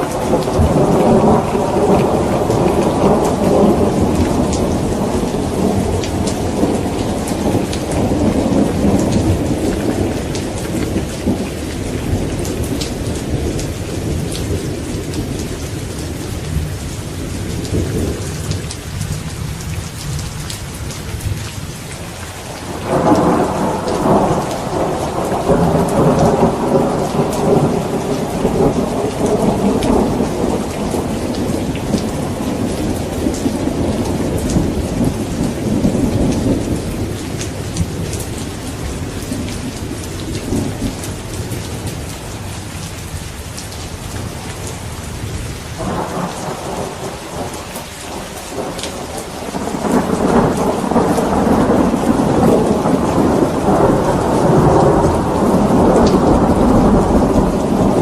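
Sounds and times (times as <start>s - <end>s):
thunder rumbling: 0.0s - 21.6s, 22.4s - 42.6s, 43.8s - 58.0s
rain: 0.0s - 58.0s.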